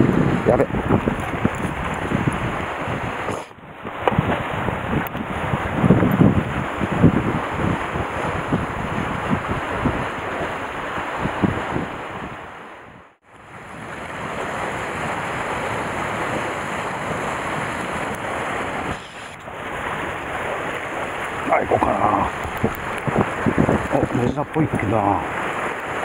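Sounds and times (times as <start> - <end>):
sea waves washing against rocks: 0.0 - 26.0
wind buffeting microphone: 0.0 - 26.0.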